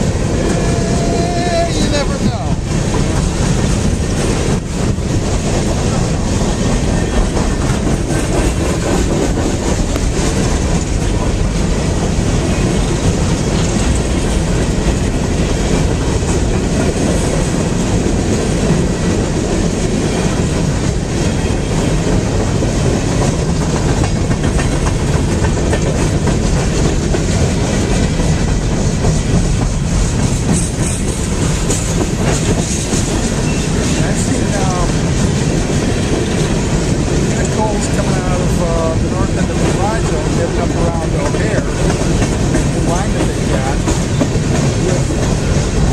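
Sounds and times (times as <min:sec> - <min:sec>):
train wheels rolling on rails: 0:00.0 - 0:45.9.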